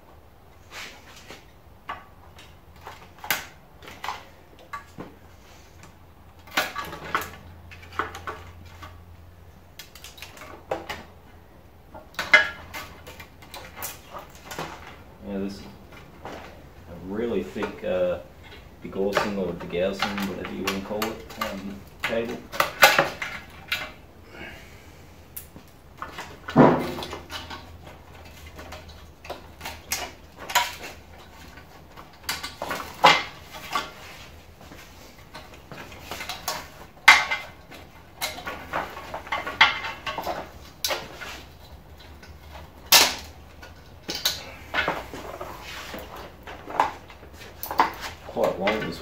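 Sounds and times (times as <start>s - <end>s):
parts clicking and knocking: 1.1s - 24.7s, 25.3s - 49.0s.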